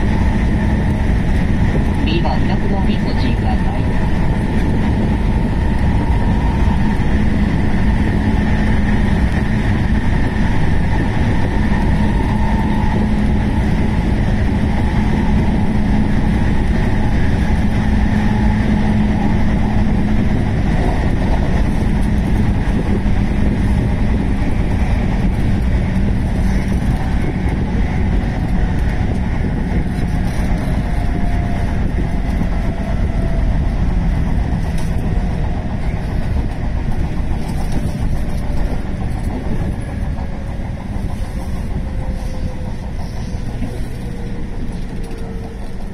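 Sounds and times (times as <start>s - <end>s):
train hum: 0.0s - 45.9s
train wheels rumbling on rails: 0.0s - 45.9s.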